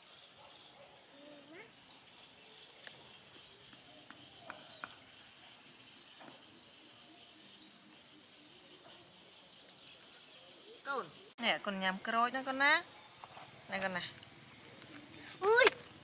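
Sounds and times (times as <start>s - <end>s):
insects chirping and buzzing: 0.0s - 16.0s.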